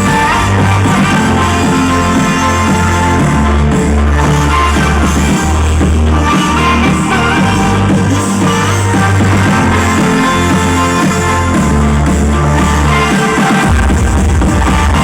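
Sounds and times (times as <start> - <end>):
loud guitar music with heavy bass: 0.0 - 15.0.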